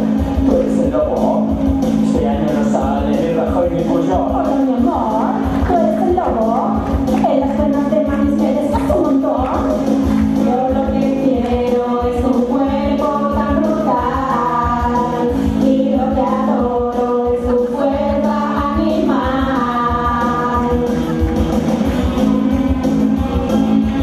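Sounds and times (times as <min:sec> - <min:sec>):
backing track with steady beat: 0:00.0 - 0:24.0
group of voices singing: 0:01.8 - 0:24.0.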